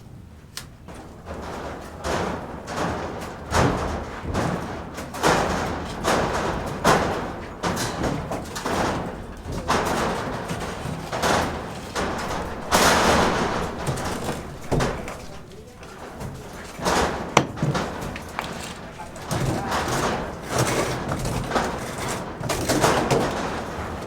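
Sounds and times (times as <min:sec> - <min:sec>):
construction knocks and scrapes: 0:00.9 - 0:24.0.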